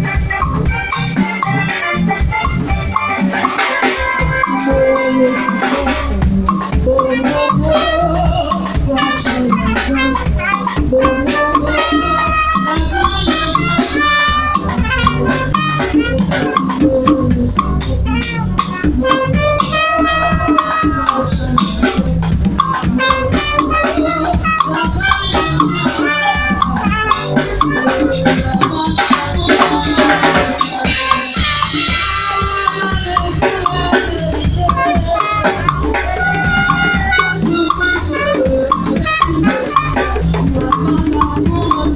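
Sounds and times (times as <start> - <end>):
congas: 0.0 - 41.9
drum kit with cymbals: 0.0 - 41.9
keyboard melody lines: 0.0 - 41.9.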